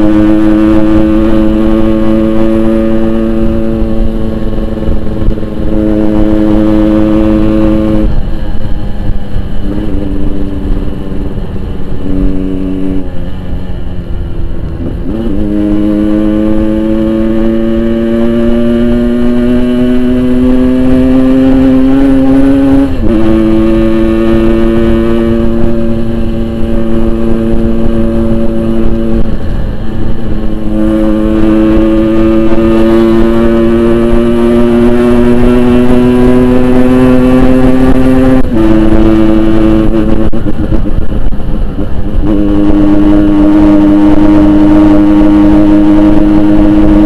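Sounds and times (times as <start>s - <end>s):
two-stroke motorcycle accelerating: 0.0s - 47.0s.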